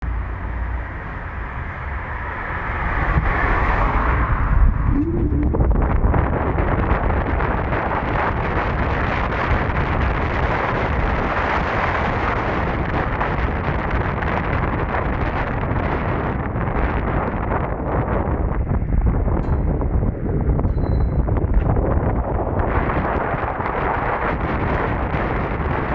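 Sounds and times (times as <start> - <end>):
wind buffeting microphone: 0.9 - 25.9.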